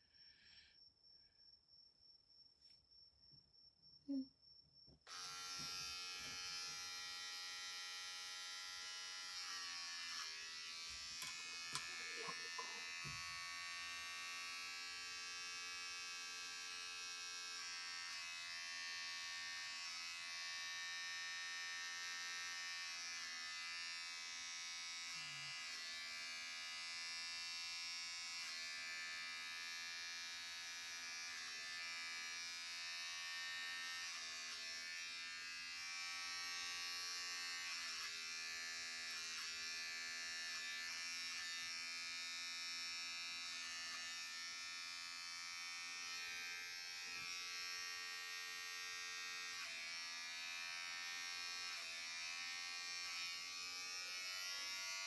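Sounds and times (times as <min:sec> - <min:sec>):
electric hair clippers buzzing: 0:05.1 - 0:55.0.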